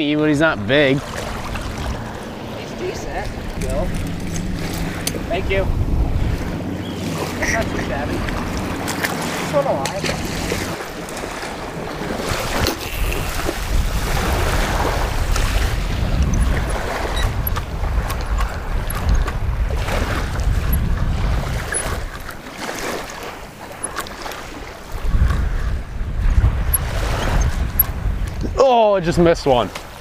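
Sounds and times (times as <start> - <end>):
small waves lapping: 0.0 - 28.4, 29.2 - 30.0
wind buffeting microphone: 0.0 - 30.0.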